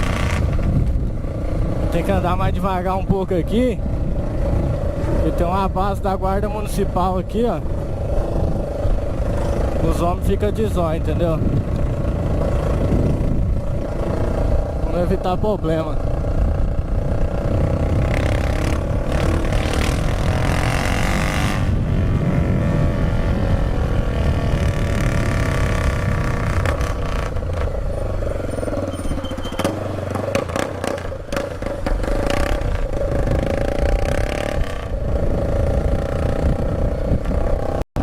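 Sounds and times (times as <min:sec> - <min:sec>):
motorcycle engine rumbling: 0:00.0 - 0:38.0.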